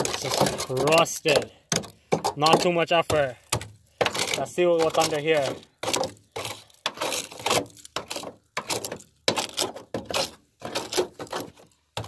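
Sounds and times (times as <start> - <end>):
hand tool breaking rusted steel: 0.0 - 12.0.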